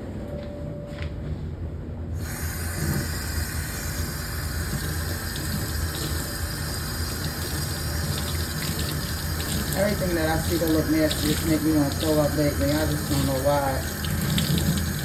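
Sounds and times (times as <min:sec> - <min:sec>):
water running: 0:02.2 - 0:15.0.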